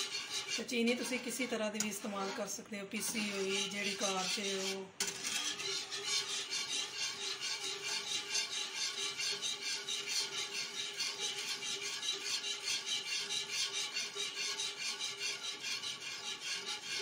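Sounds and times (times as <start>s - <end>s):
whisk scraping in a frying pan: 0.0s - 17.0s.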